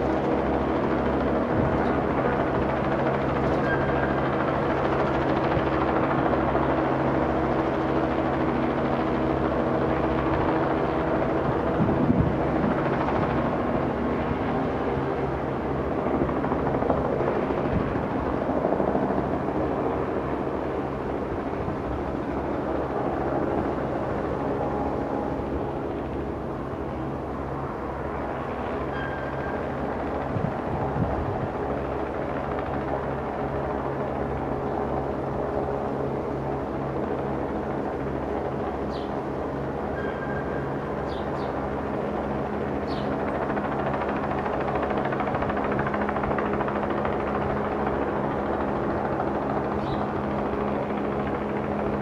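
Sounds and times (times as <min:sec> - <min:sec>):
engine drone: 0:00.0 - 0:52.0.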